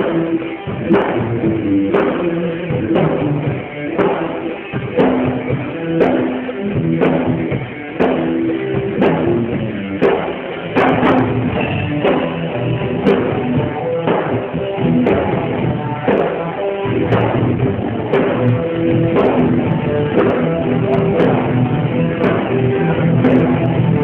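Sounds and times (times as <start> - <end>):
rock band music: 0.0 - 24.0
heavy drum hits: 0.7 - 24.0.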